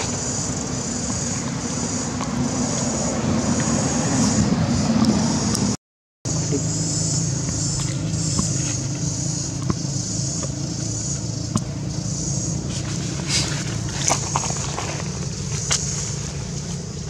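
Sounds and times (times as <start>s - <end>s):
cicadas droning: 0.0s - 17.0s
vehicle engine idling: 0.0s - 17.0s.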